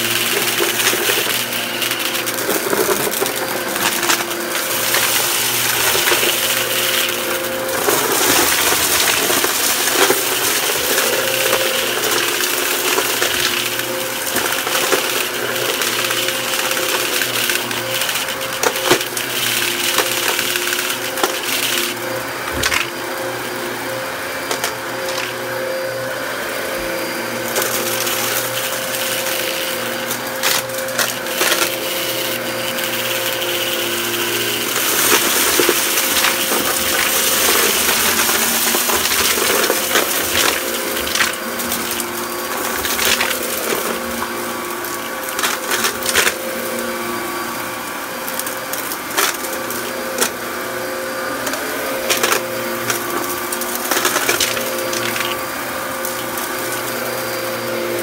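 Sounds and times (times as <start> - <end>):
debris crackling and rattling: 0.0 - 23.0, 24.5 - 25.4, 27.5 - 46.4, 51.4 - 55.4
vacuum cleaner on carpet: 0.0 - 58.0.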